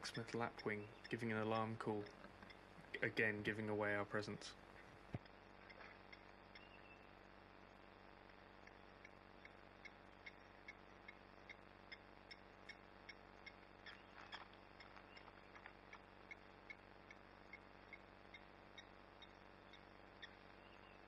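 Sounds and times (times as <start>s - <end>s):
bird alarm call metallic tink notes: 0.0s - 3.7s, 5.6s - 7.1s, 8.7s - 16.8s, 17.4s - 21.0s.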